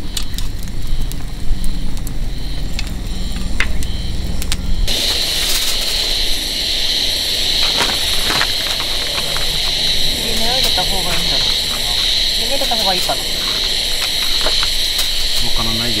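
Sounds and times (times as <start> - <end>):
high hiss of grilling food: 0.0 - 16.0
wood fire crackling and popping: 0.0 - 16.0.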